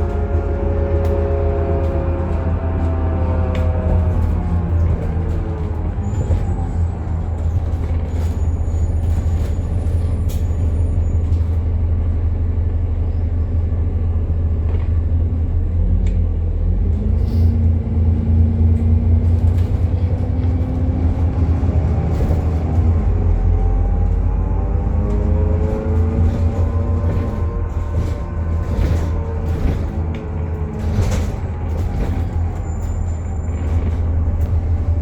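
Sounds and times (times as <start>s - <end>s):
bus axle drone: 0.0s - 35.0s
bus engine whine: 0.0s - 35.0s.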